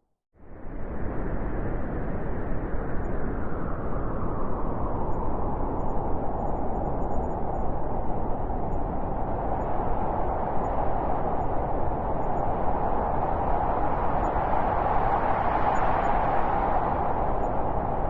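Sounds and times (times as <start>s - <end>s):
blizzard wind howling: 0.4s - 18.0s.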